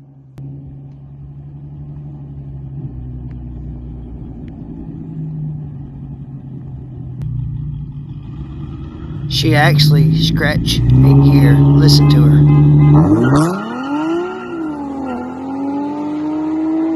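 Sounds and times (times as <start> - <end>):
car engine droning under load: 0.0 - 16.9.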